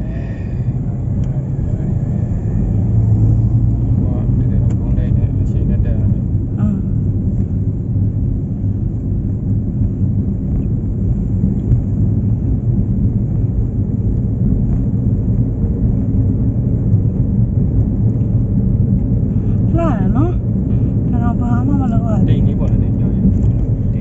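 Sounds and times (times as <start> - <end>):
vehicle driving on concrete: 0.0 - 24.0.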